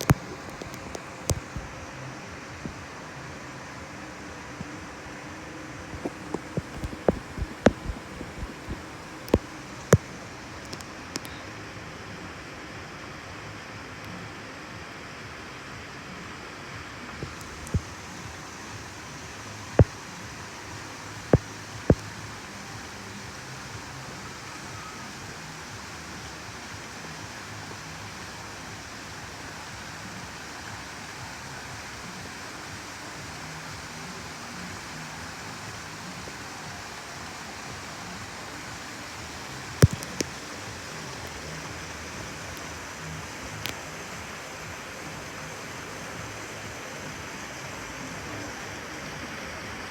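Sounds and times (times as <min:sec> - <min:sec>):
flowing water: 0:00.0 - 0:49.9.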